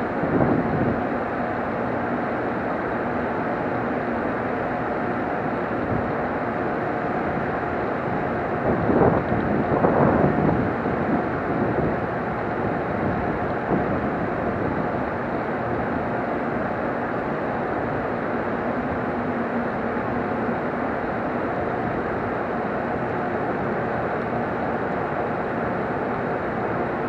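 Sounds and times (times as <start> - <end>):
train equipment humming: 0.0 - 27.0.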